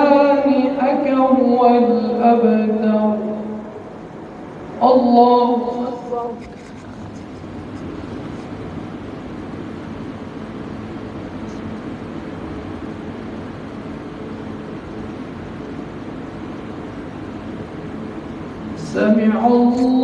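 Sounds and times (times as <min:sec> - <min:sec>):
ceiling fans and air conditioning hum: 0:00.0 - 0:20.0.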